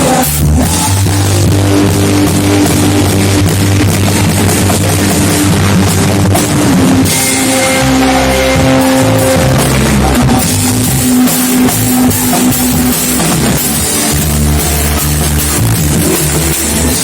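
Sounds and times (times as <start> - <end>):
loud band music with drums and bass: 0.0 - 17.0.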